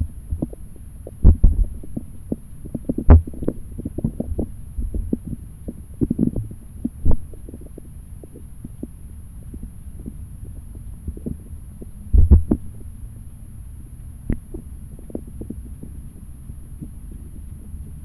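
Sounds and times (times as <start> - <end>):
muffled underwater stream rumble: 0.0 - 18.0.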